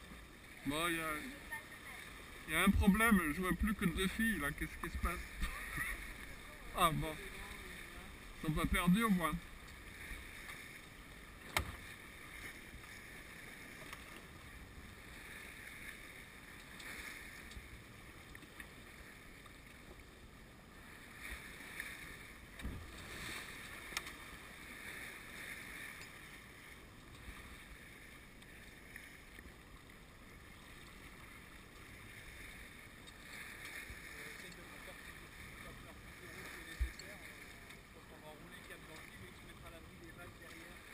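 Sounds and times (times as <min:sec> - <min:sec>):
wind and water rushing along hull: 0:00.0 - 0:40.9.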